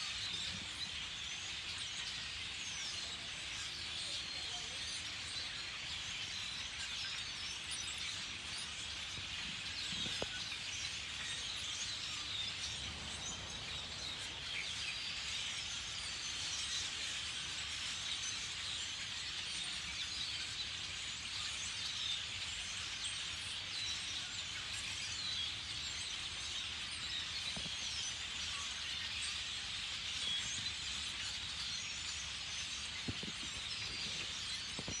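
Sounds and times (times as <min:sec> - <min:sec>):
flock of birds chirping: 0:00.0 - 0:35.0.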